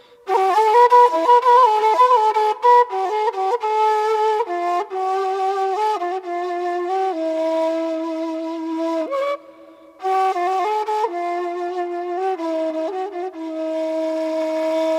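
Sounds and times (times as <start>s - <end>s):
flute melody: 0.2s - 14.9s.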